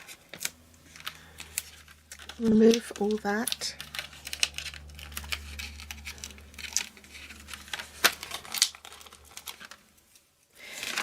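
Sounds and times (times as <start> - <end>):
low steady hum: 0.0 - 10.5
backing paper peeling: 0.0 - 11.0
paper crinkles and ticks: 0.0 - 11.0.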